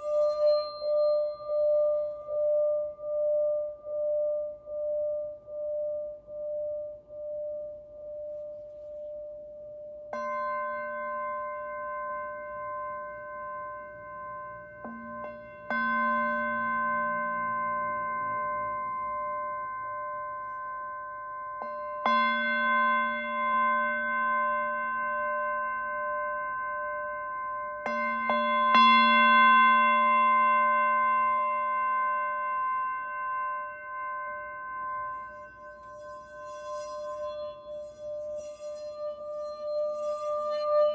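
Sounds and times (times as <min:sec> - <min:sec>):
singing bowls ringing: 0:00.0 - 0:40.9.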